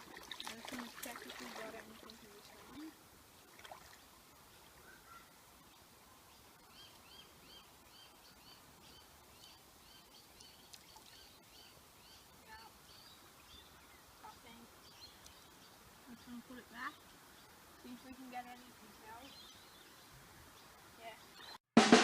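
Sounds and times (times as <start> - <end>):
light hiss: 2.5 - 21.5.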